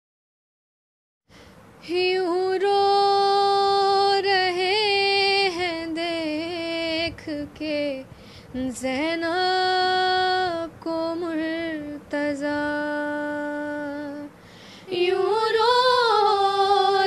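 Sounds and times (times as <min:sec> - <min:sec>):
woman singing a lament: 0:01.8 - 0:17.0.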